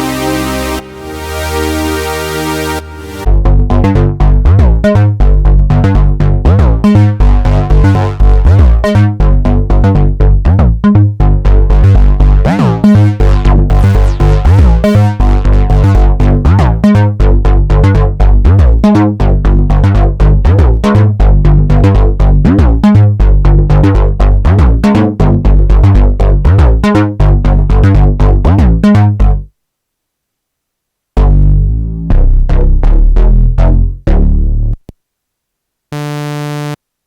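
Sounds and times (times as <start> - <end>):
synthesizer bass sequence: 0.0 - 29.5, 31.2 - 34.8, 36.0 - 36.8.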